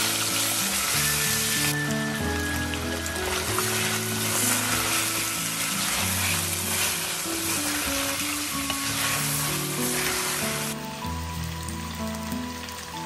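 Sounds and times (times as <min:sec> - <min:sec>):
wooden spoon stirring: 0:00.0 - 0:10.9
meat sizzling in hot oil: 0:00.0 - 0:13.0
soft background music: 0:00.0 - 0:13.0.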